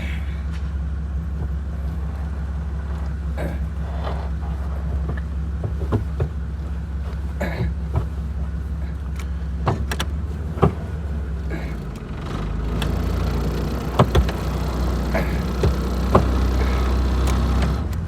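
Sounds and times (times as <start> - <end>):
car engine running: 0.0 - 18.0
sharp clicks and knocks: 0.5 - 12.1, 12.7 - 18.0.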